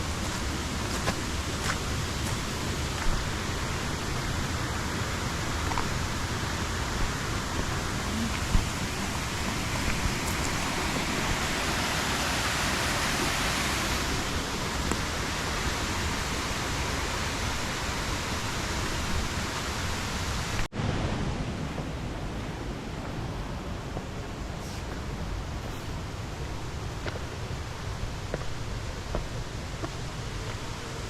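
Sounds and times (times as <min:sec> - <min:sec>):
river rushing over stones: 0:00.0 - 0:31.0.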